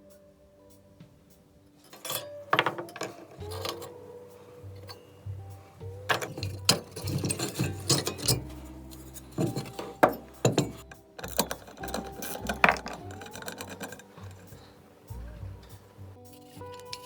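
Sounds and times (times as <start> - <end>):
metallic clicks and clinks of tools: 1.8 - 17.0.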